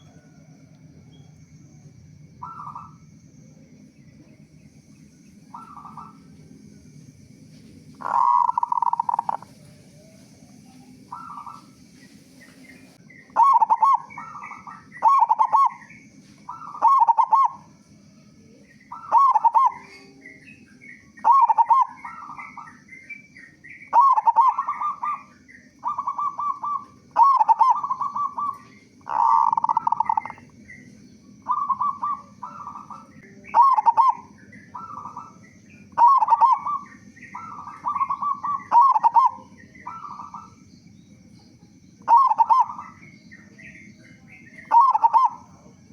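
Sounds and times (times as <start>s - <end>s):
dove cooing: 0.0s - 4.7s, 5.3s - 45.9s
small birds chirping: 0.0s - 45.9s.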